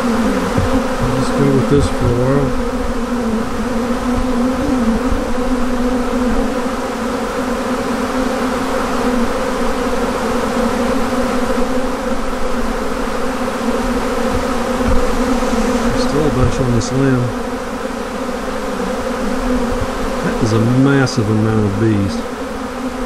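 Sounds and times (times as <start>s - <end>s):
bee swarm buzzing: 0.0s - 23.0s.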